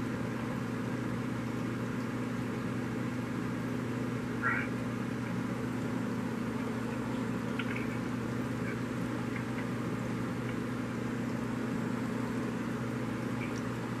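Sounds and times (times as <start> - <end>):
pump electrical hum: 0.0 - 14.0.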